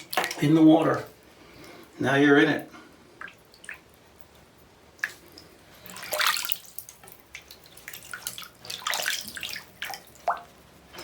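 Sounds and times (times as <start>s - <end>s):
bath water splashing and sloshing: 0.0s - 1.1s, 3.1s - 10.9s.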